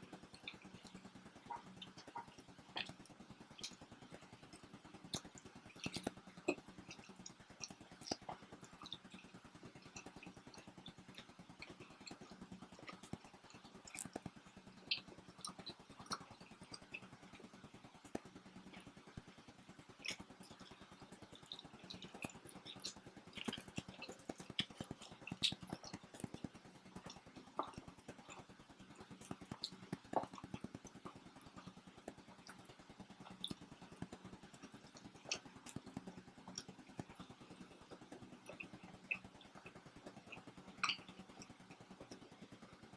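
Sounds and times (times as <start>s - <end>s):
faint steady hum: 0.0s - 42.9s
people chewing food: 0.0s - 42.9s.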